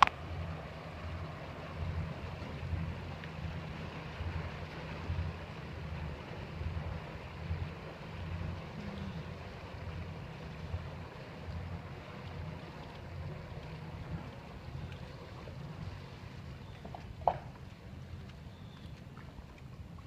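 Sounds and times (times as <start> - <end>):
boat engines idling: 0.0 - 20.0.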